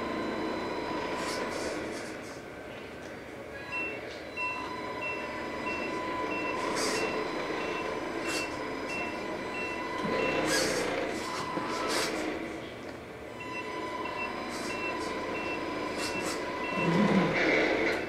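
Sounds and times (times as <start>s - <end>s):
reversing alarm beeps: 0.0s - 2.1s, 3.7s - 12.5s, 13.3s - 18.0s.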